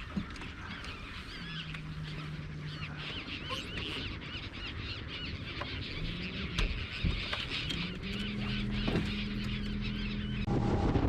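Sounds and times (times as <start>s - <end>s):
flock of birds calling: 0.0s - 10.5s
low steady hum: 0.0s - 11.0s.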